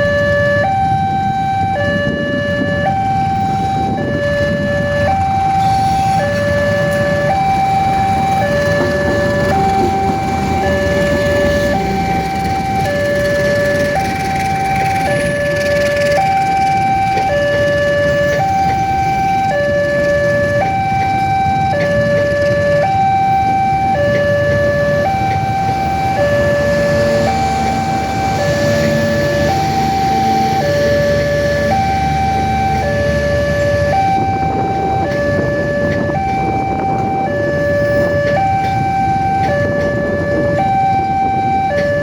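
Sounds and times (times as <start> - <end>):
two-tone level crossing alarm: 0.0 - 42.0.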